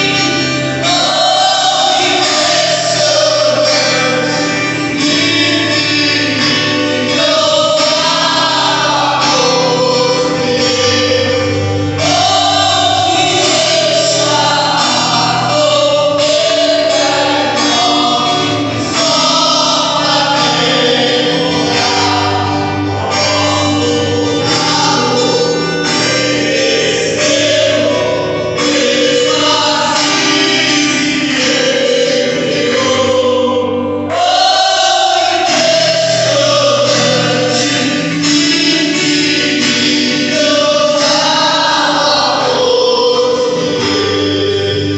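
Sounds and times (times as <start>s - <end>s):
gospel choir singing: 0.0s - 44.9s
musical accompaniment: 0.0s - 44.9s.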